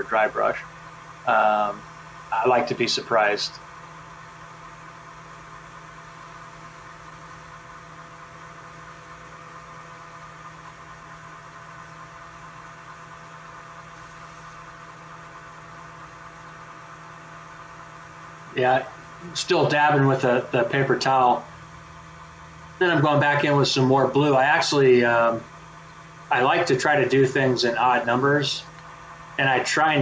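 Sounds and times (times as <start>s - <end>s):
electrical hum with hiss: 0.0s - 30.0s.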